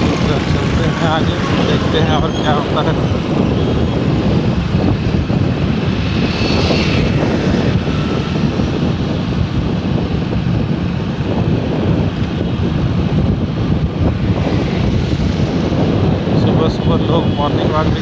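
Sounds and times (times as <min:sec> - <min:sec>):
vehicle rumble and road noise: 0:00.0 - 0:18.0
wind buffeting microphone: 0:00.0 - 0:18.0.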